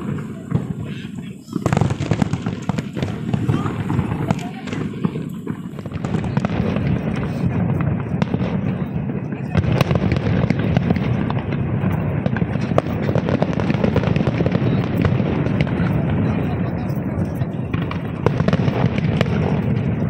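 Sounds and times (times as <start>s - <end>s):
crowd voices: 0.0s - 20.0s
fireworks bursting and crackling: 0.0s - 20.0s.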